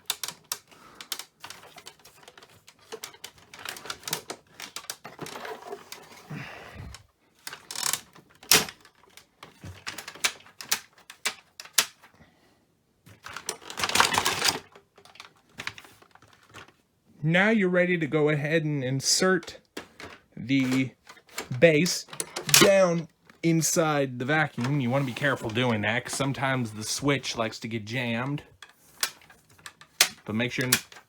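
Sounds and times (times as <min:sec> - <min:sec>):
plastic parts clicking and rattling: 0:00.0 - 0:12.2, 0:13.0 - 0:16.8, 0:19.3 - 0:23.5, 0:24.3 - 0:31.0.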